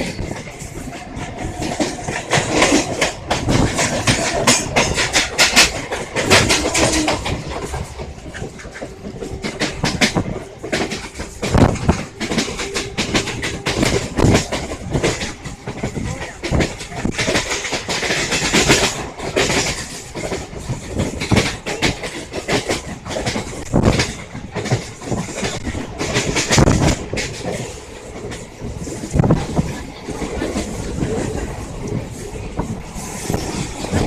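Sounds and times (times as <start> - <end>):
train rumble: 0.0 - 34.0
train wheels clattering over rail joints: 0.0 - 34.0.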